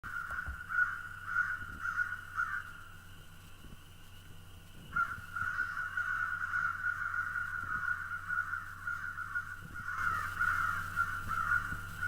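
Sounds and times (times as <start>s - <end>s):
crows cawing: 0.0s - 3.0s, 4.9s - 12.0s.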